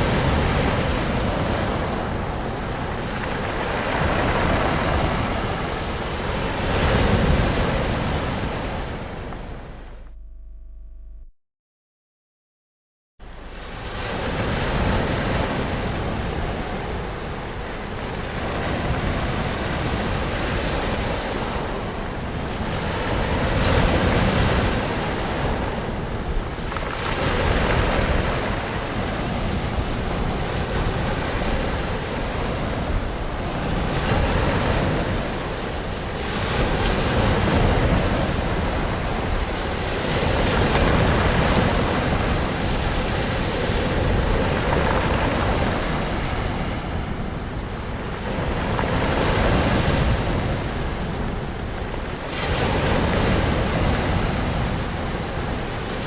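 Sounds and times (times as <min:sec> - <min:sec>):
ocean waves breaking: 0:00.0 - 0:10.1, 0:13.2 - 0:56.0.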